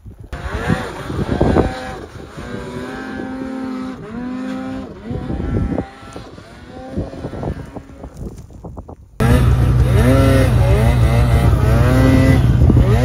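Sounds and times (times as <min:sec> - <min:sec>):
snowmobile engine revving: 0:00.3 - 0:08.4, 0:09.2 - 0:13.0.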